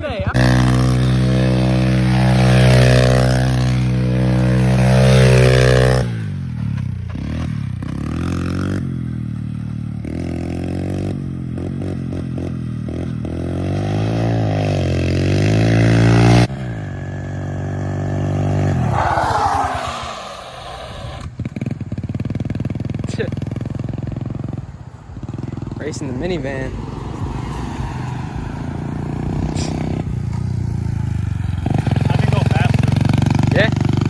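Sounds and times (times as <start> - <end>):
pit bike engine revving: 0.0 - 34.0.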